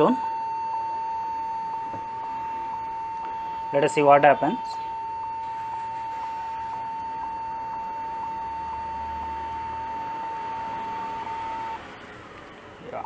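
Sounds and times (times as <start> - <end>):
laptop beep tone: 0.0 - 12.0.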